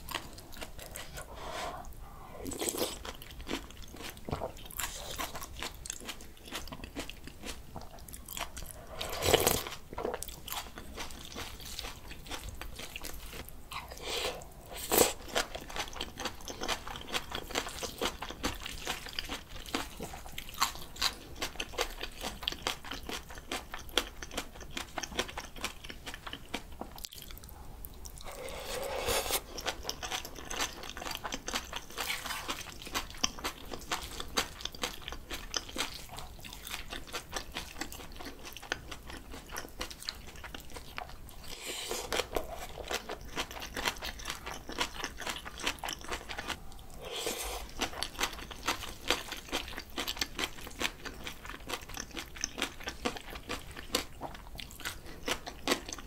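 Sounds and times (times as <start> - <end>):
close crunching and wet chewing: 0.0 - 56.0.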